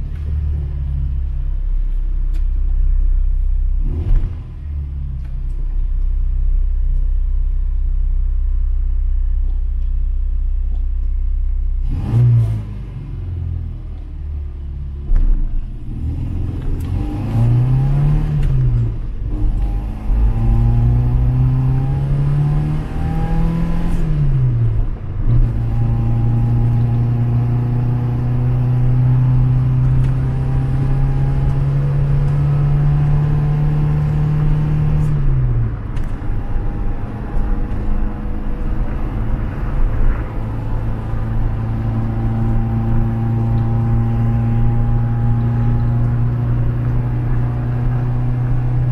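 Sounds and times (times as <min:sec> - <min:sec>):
car engine accelerating through gears: 0:03.3 - 0:06.0, 0:11.8 - 0:48.9.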